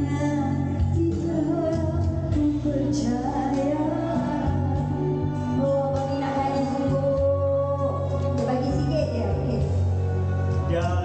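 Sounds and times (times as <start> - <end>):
woman singing into a microphone: 0.0 - 9.9
pop backing track with bass: 0.0 - 11.0.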